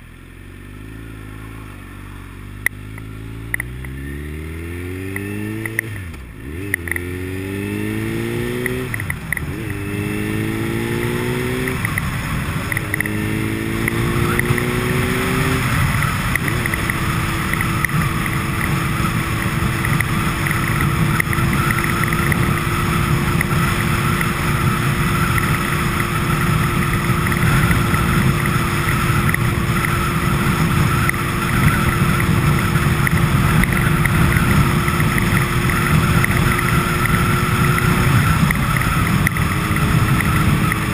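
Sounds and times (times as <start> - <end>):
road noise: 0.0 - 40.9
vehicle engine shifting gears: 0.0 - 40.9.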